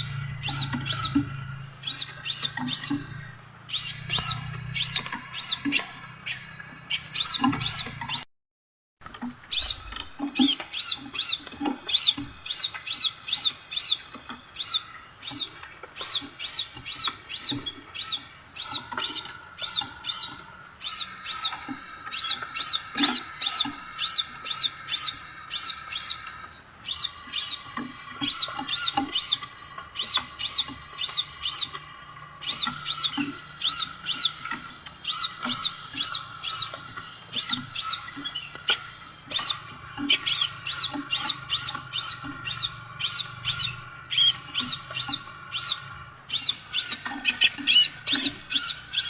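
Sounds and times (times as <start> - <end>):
bird whistled calls: 0.0 - 8.2, 9.4 - 49.0.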